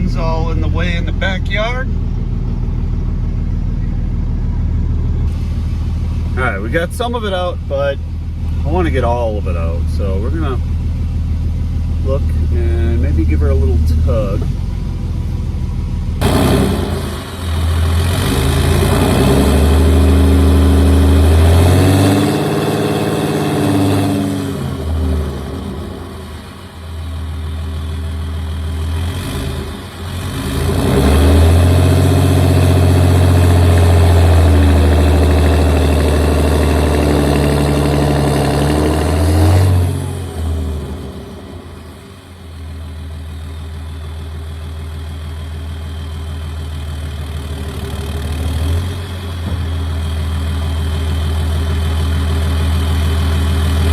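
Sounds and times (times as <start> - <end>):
truck engine revving under load: 0.0 - 53.9.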